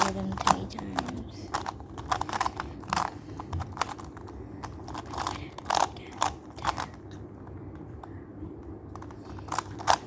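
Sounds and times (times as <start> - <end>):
plastic puzzle clicking: 0.0 - 7.2, 8.9 - 10.0.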